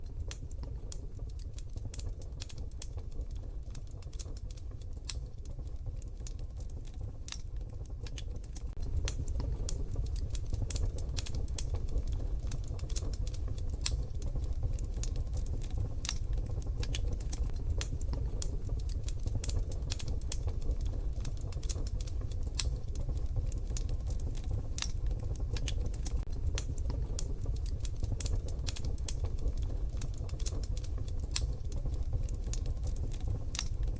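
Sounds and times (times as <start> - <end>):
wood fire crackling in stove: 0.0 - 33.9.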